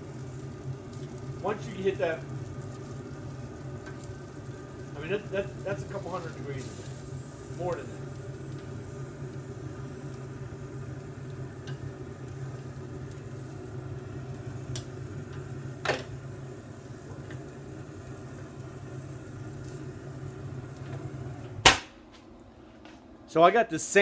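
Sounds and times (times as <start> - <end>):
meat sizzling on a grill: 0.0 - 21.6
grill fan humming: 0.0 - 24.0.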